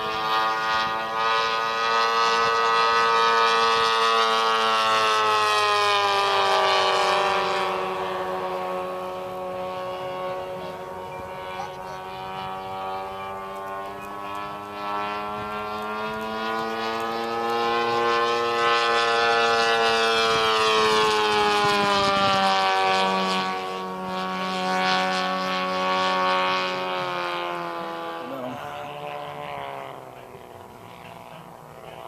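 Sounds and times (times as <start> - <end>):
model airplane engine droning: 0.0 - 32.0.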